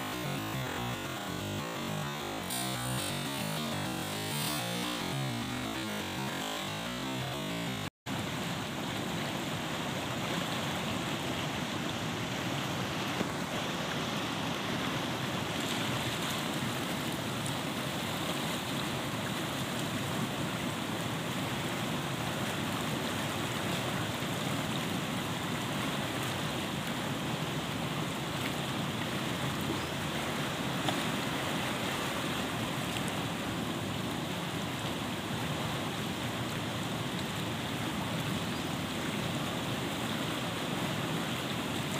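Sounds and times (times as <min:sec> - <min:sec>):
fast-flowing river rushing: 0:00.0 - 0:41.9.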